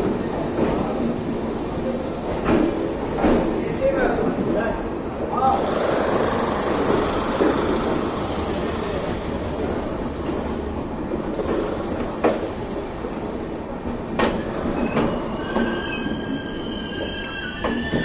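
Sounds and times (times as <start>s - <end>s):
rumble of train wheels on rail: 0.0s - 18.0s.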